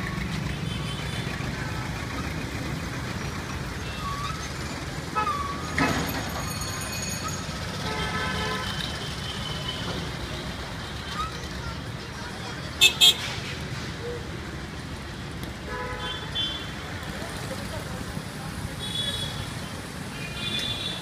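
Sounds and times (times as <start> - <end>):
vehicle engines running: 0.0 - 15.7, 16.5 - 21.0.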